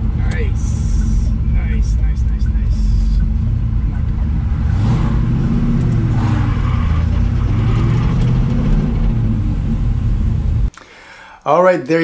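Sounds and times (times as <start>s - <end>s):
car engine running: 0.0s - 10.7s.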